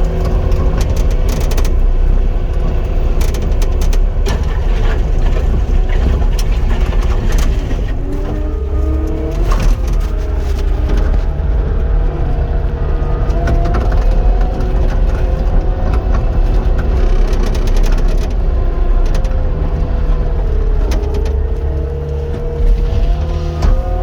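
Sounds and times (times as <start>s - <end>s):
diesel engine running under load: 0.0s - 24.0s
machine clanks and rattles: 0.0s - 24.0s.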